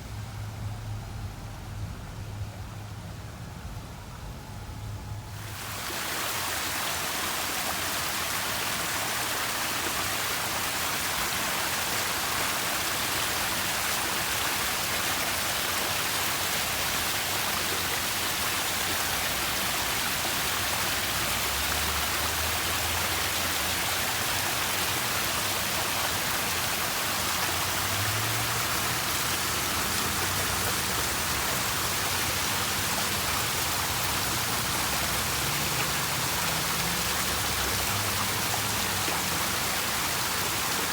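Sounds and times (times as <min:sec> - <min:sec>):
water falling and splashing: 0:05.4 - 0:40.9.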